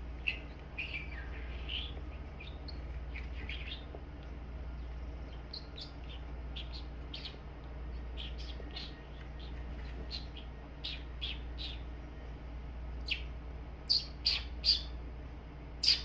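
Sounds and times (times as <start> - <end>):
bird chirping: 0.0 - 15.0, 15.8 - 16.0
steady low hum: 0.0 - 16.0.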